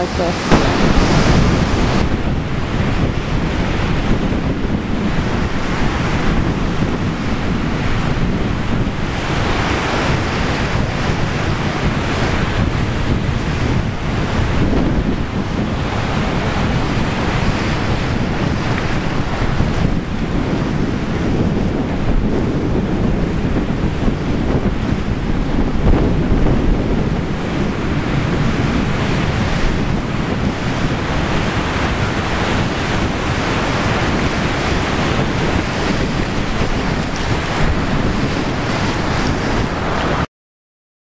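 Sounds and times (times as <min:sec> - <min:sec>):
storm waves breaking on beach: 0:00.0 - 0:40.3
wind buffeting microphone: 0:00.0 - 0:40.3.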